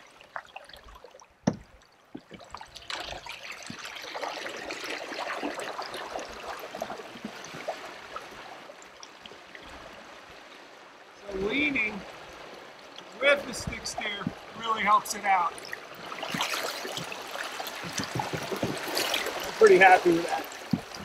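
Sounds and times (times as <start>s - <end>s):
water hissing and splashing along hull: 0.0s - 21.0s.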